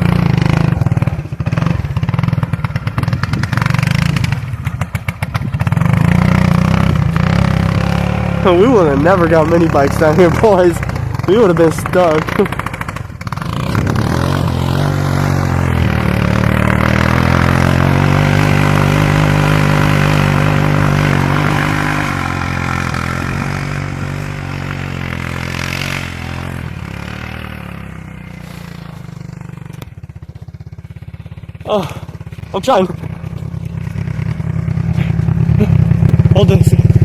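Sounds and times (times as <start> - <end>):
atv engine revving and idling: 0.0 - 37.0.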